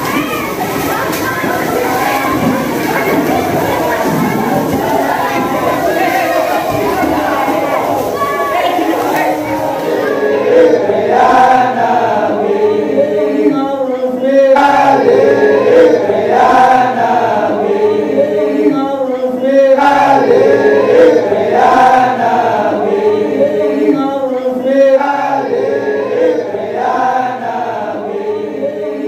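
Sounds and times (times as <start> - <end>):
men chanting in unison: 0.2 - 29.0.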